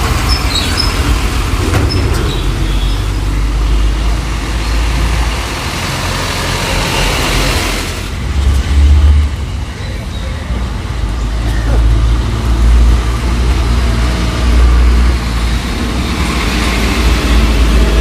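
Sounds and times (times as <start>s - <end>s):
heavy truck engine rumble: 0.0s - 18.0s
tyre and road noise: 0.0s - 18.0s.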